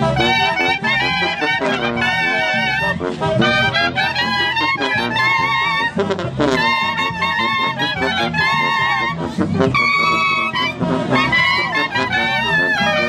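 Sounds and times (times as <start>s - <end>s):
brass band playing: 0.0s - 13.0s
sousaphone bass: 0.0s - 13.0s
trumpets: 0.0s - 13.0s.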